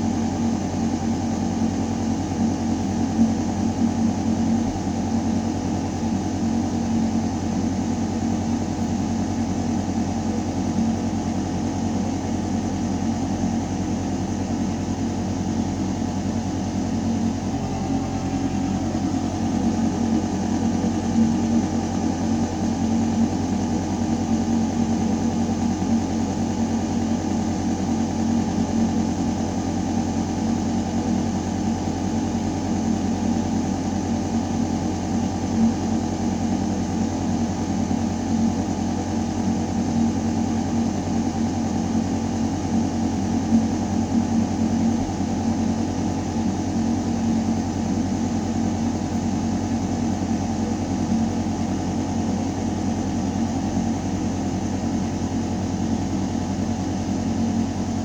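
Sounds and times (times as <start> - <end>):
ventilation mechanical hum: 0.0 - 58.0.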